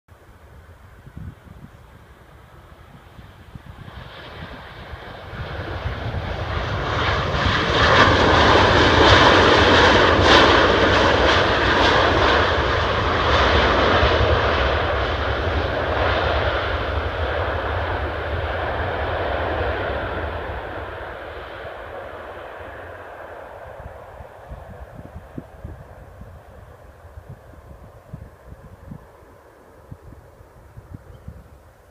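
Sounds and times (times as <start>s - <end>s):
jet airliner engines passing by: 0.2s - 31.9s.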